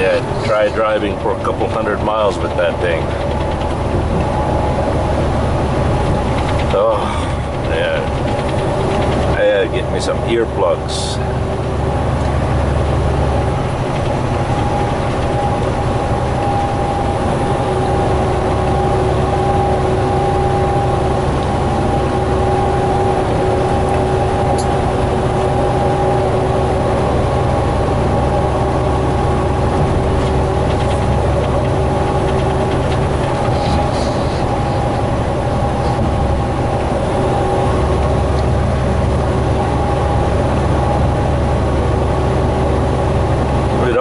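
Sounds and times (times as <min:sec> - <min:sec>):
diesel engine drone: 0:00.0 - 0:44.0
road and wind noise: 0:00.0 - 0:44.0.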